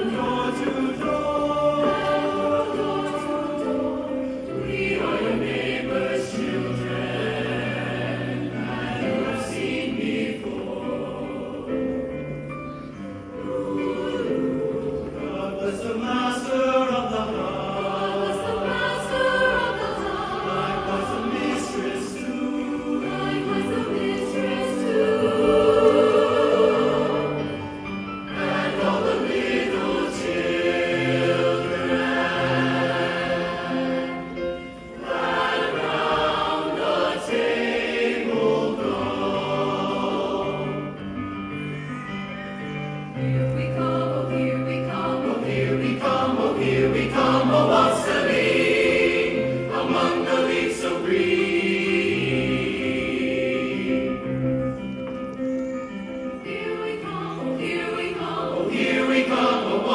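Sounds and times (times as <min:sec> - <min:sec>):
choir singing in parts: 0:00.0 - 0:59.9.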